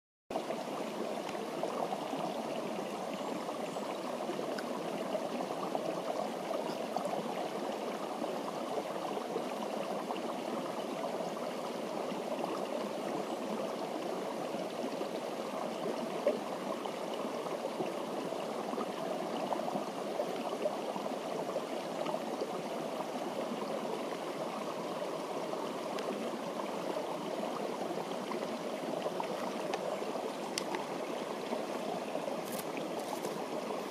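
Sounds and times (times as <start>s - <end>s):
running water rushing: 0.3s - 33.9s.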